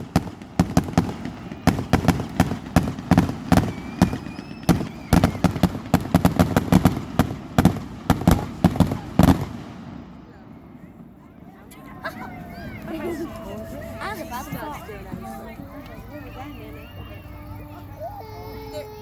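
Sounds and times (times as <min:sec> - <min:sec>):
fireworks banging: 0:00.0 - 0:19.0.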